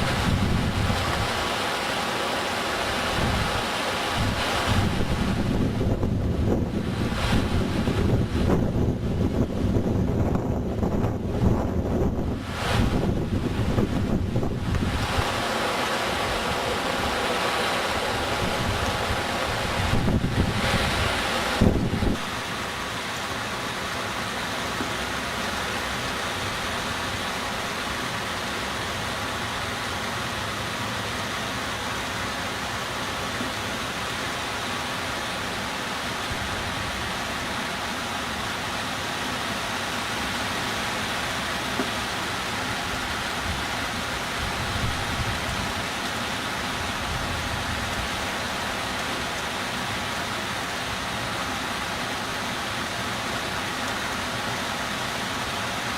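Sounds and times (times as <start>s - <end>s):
rush of water: 0.0s - 55.9s.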